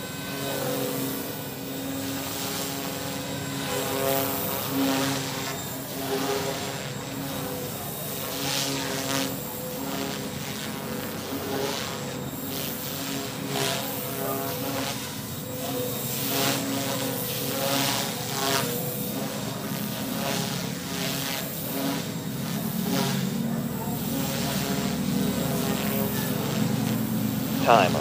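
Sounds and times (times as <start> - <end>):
rc helicopter motor whine: 0.0 - 28.0
rotor whir: 0.0 - 28.0.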